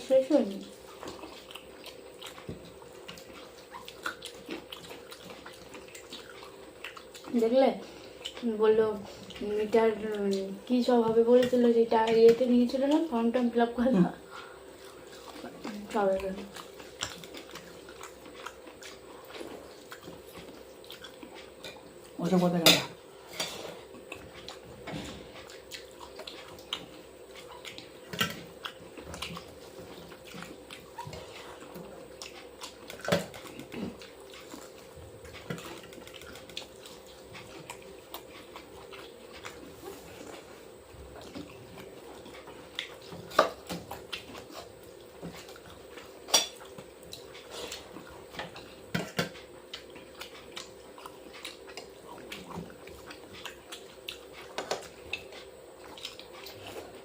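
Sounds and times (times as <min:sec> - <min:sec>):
biting and eating: 0:00.0 - 0:13.2, 0:14.2 - 0:22.2, 0:23.0 - 0:57.0
steady low hum: 0:00.0 - 0:57.0.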